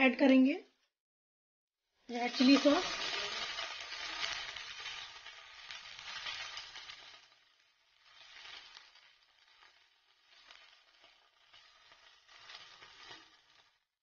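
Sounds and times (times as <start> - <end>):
vegetables sizzling in oil: 2.0 - 13.9.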